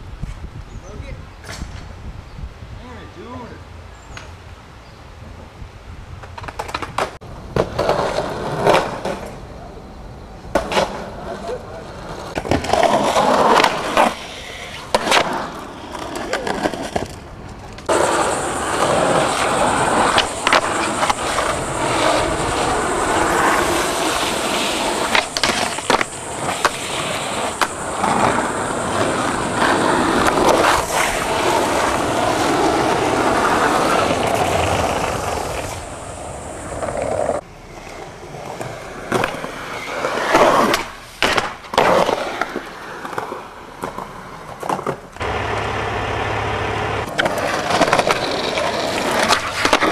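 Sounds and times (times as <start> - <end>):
skateboard wheels rolling on concrete: 0.0 - 49.9
skateboards popping and landing: 6.1 - 9.7, 10.4 - 49.9.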